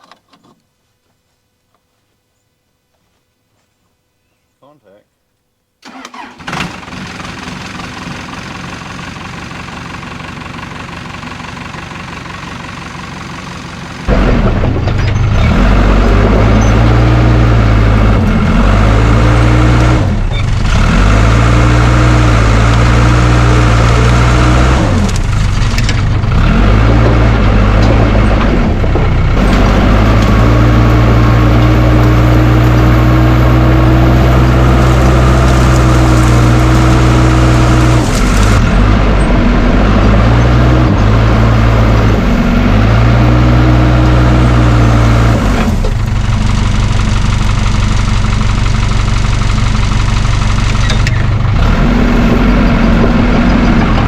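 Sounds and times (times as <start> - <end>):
diesel engine revving: 5.8 - 54.0.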